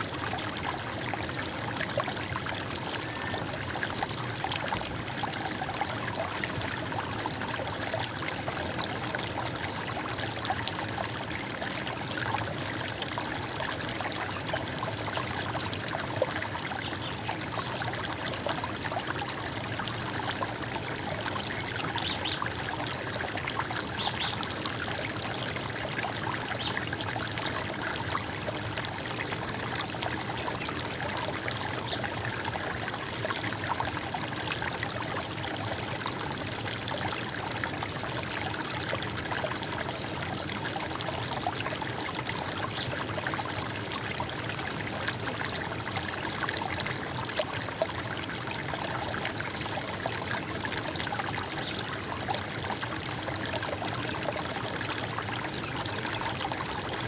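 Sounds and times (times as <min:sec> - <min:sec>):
running water gurgling: 0:00.0 - 0:57.0.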